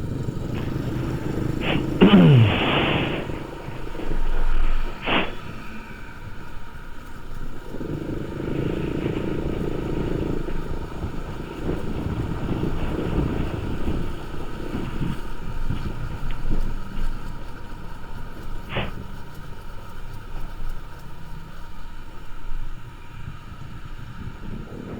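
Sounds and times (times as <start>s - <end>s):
wind on microphone: 0.0s - 19.2s, 23.1s - 24.9s
motorcycle engine: 0.0s - 24.9s
road noise: 0.0s - 24.9s.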